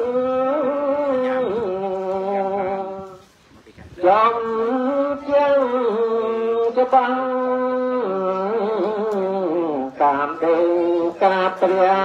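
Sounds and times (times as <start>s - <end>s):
man chanting into a microphone: 0.0s - 3.2s, 4.0s - 12.0s.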